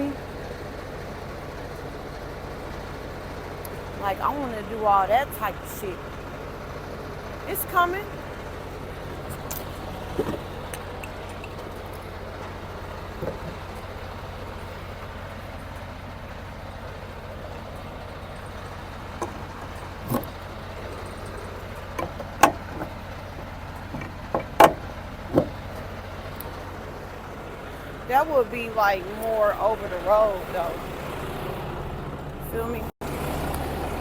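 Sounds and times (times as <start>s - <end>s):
diesel truck engine idling: 0.0s - 34.0s.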